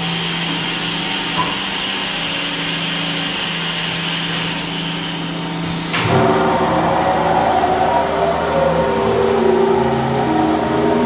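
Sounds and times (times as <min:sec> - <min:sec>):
machining center whine and hiss: 0:00.0 - 0:11.0.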